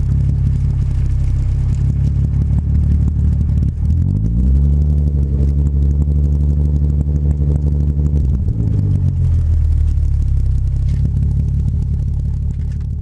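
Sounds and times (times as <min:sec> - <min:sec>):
car exhaust engine drone: 0:00.0 - 0:13.0.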